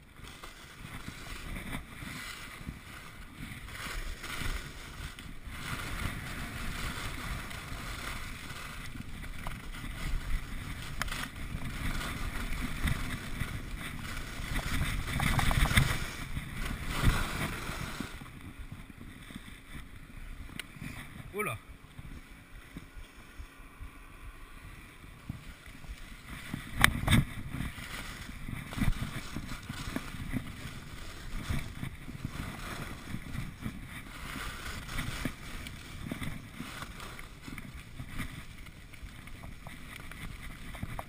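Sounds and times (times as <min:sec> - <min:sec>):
skis scraping on snow: 0:00.0 - 0:41.0
wind rumbling on microphone: 0:00.0 - 0:41.0.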